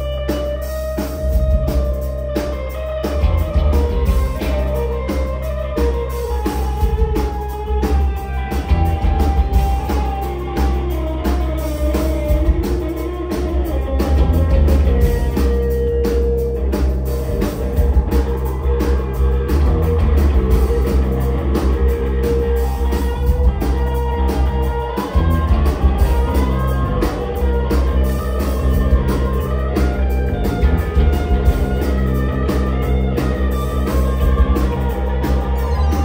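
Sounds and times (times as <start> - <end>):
drum kit steady beat: 0.0 - 36.0
electric guitars: 0.0 - 36.0.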